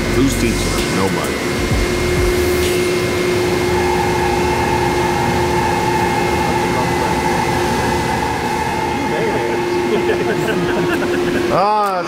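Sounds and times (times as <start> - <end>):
higher steady machine tone: 0.0 - 12.0
lathe machine tone: 0.0 - 12.0.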